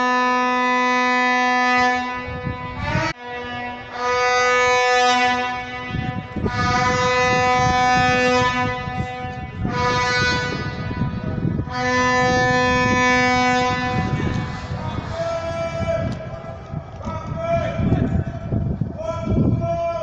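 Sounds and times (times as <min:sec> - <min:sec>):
vuvuzela blasts: 0:00.0 - 0:20.0.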